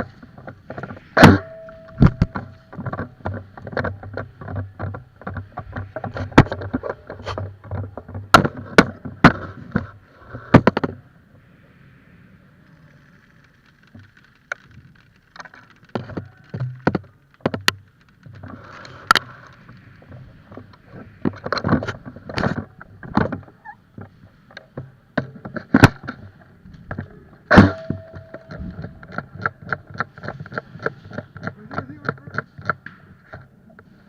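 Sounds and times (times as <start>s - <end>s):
sharp clicks and knocks: 0.0s - 11.0s, 13.2s - 33.9s
rustling: 0.0s - 34.0s.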